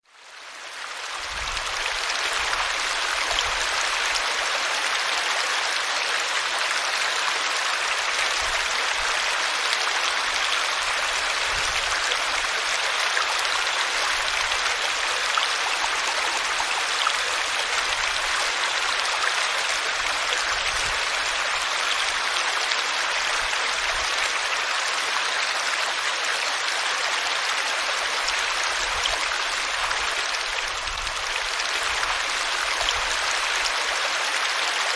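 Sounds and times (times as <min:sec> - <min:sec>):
stream water babbling: 0:00.1 - 0:34.9.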